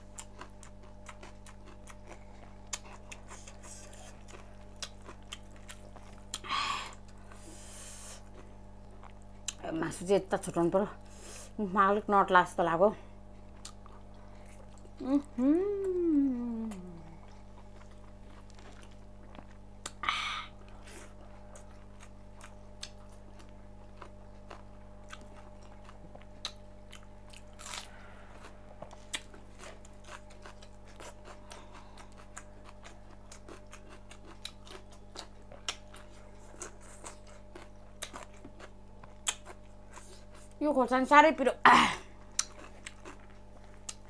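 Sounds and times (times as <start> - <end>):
chewing with mouth clicks: 0.0 - 7.4, 8.2 - 9.6, 13.4 - 16.0, 16.6 - 20.0, 20.6 - 40.6, 42.2 - 44.0.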